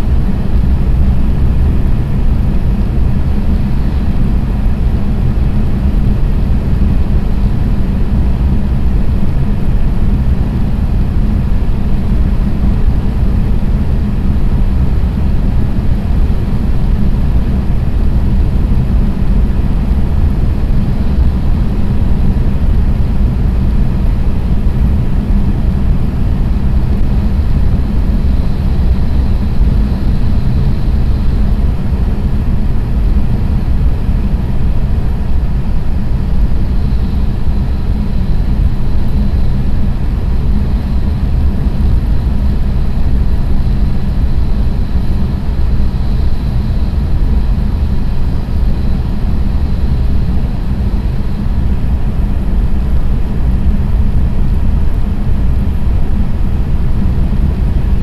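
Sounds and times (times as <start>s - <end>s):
faint high whine: 0.0s - 58.0s
train running deep rumble: 0.0s - 58.0s.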